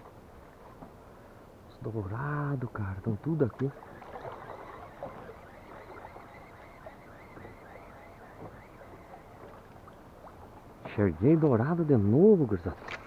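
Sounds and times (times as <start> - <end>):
river water around boat: 0.0 - 13.0.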